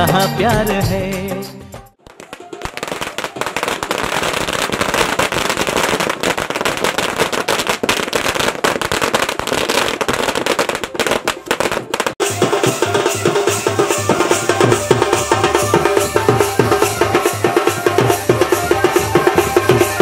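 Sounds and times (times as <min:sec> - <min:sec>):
firecrackers crackling: 0:02.0 - 0:20.0.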